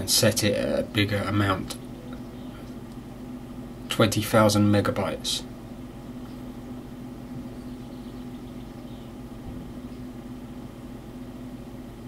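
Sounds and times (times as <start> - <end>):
desktop computer humming: 0.0 - 12.0.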